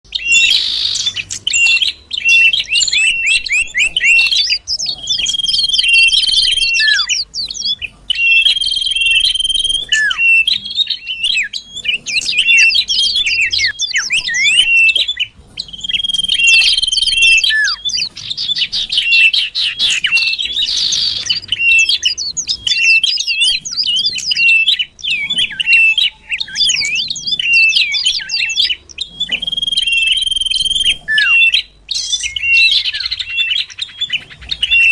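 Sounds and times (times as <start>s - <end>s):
bird chirps and trills: 0.0s - 34.9s
whistled bird notes: 0.0s - 34.9s.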